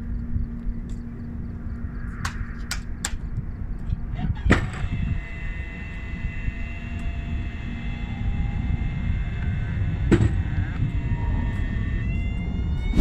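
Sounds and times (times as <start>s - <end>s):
steady low hum: 0.0s - 13.0s
door drive whine: 2.0s - 13.0s.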